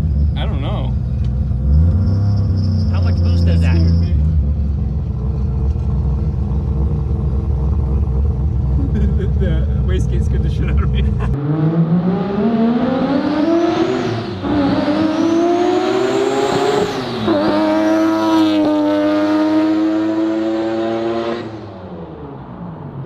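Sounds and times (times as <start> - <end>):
rotary engine accelerating: 0.0 - 23.0.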